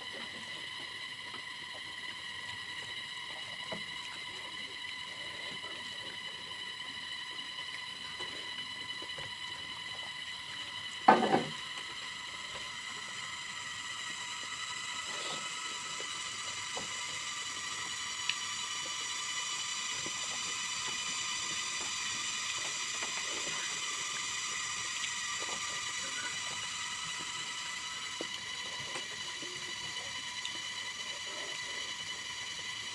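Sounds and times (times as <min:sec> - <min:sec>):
high-pitched whine: 0:01.2 - 0:32.9.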